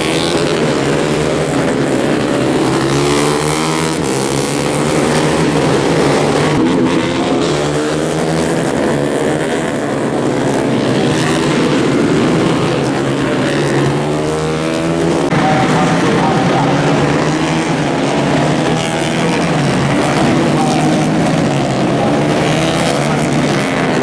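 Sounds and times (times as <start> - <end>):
motorcycle engines racing: 0.0 - 24.0.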